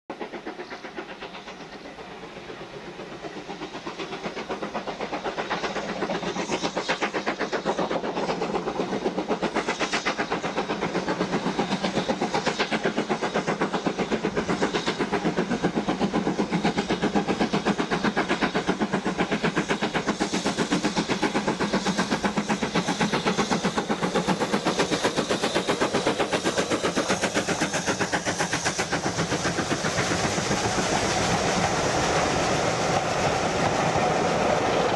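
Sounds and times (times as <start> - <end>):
coaches rumbling on rails: 0.1 - 34.9
steam locomotive exhaust beat: 0.1 - 34.9.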